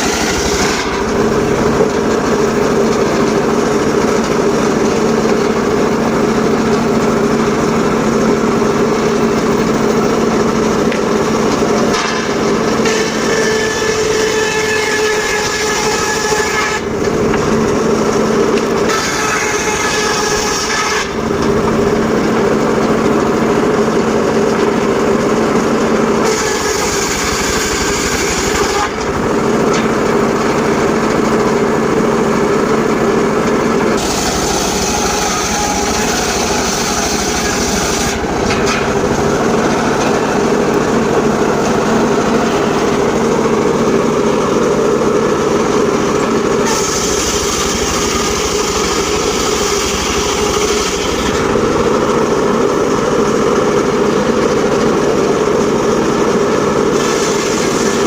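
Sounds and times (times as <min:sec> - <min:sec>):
engine-driven sawmill running: 0:00.0 - 0:58.0.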